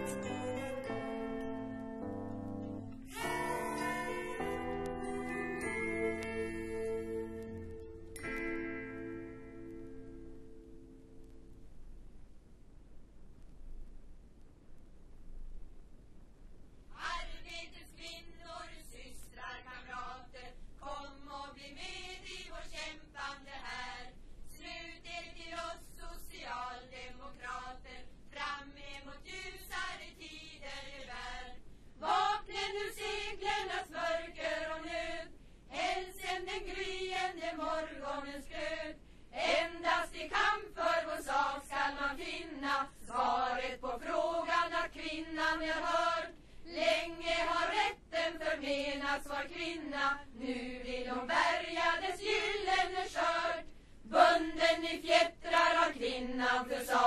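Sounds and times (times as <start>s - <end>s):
choir singing: 0.0s - 1.8s, 2.9s - 7.7s, 17.0s - 57.0s.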